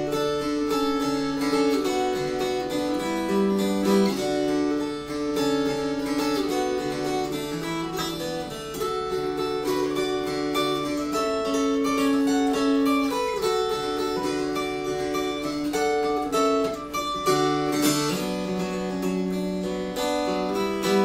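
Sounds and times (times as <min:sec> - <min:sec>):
mountain dulcimer melody: 0:00.0 - 0:21.0.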